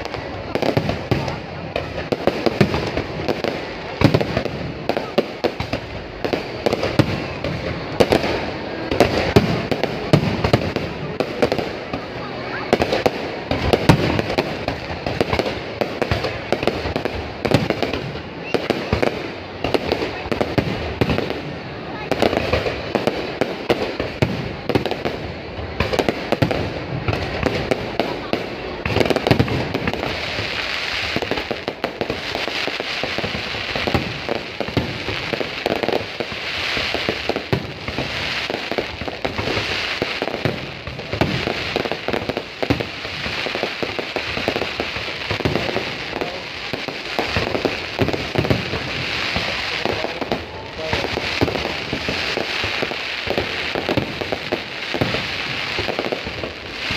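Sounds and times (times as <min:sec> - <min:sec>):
fireworks banging and crackling: 0:00.0 - 0:56.9.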